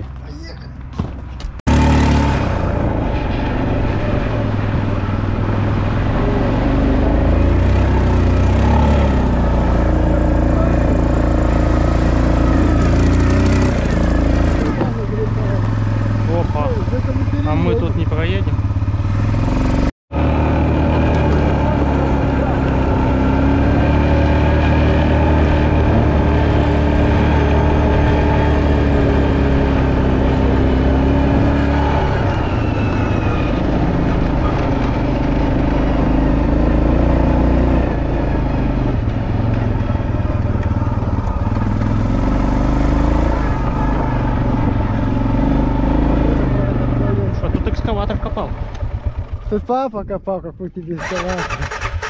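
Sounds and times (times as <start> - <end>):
quad bike engine running: 1.7 - 49.8, 51.0 - 52.0.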